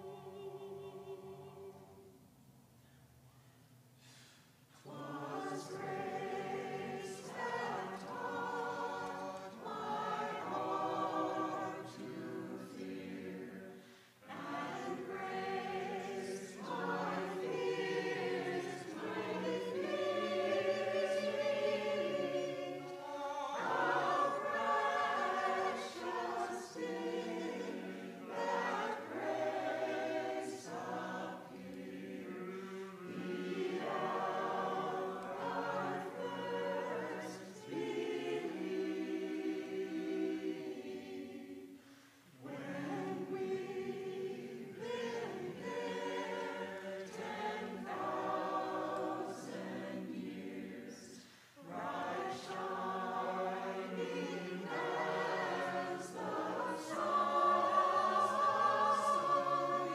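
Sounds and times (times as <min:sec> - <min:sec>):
church choir singing: 0:00.0 - 0:02.3, 0:04.0 - 0:59.9.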